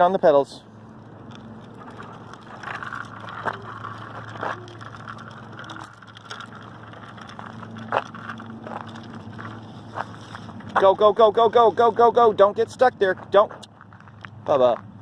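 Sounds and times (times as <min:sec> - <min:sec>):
bicycle rattling on pavement: 0:00.0 - 0:15.0
steady low hum: 0:00.5 - 0:15.0.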